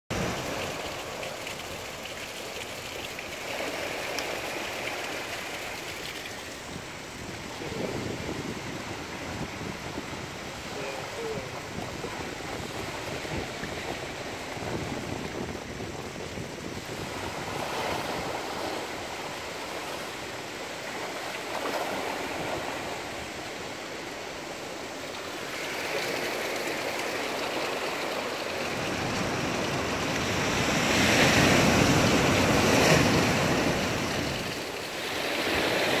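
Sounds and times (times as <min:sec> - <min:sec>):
waves washing on sandy beach: 0:00.1 - 0:36.0.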